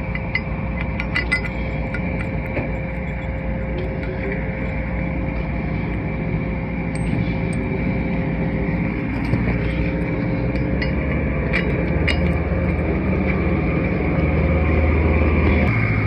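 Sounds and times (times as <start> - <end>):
lorry engine idling: 0.0 - 16.0.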